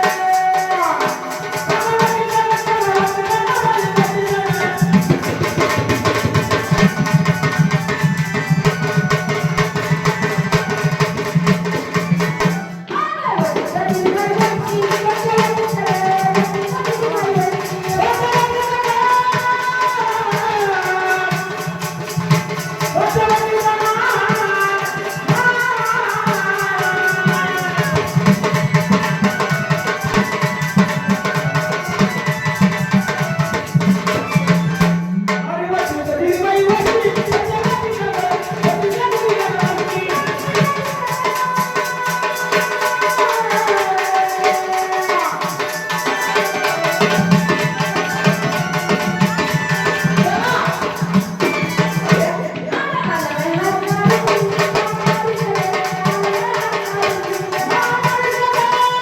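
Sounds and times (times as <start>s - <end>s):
rattling percussion: 0.0s - 59.0s
tabla: 0.0s - 59.0s
woman singing: 0.0s - 59.0s.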